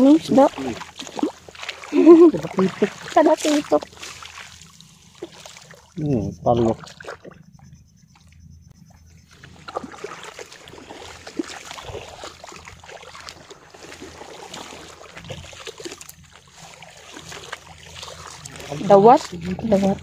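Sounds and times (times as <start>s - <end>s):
shallow water sloshing: 0.0s - 20.0s.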